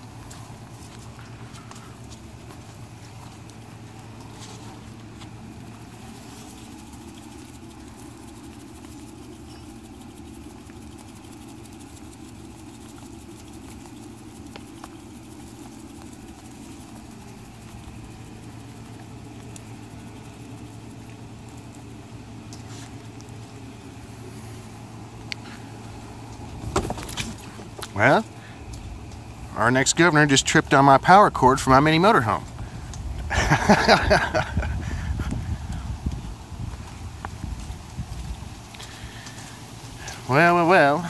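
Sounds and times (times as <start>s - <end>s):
motor humming: 0.0s - 41.0s.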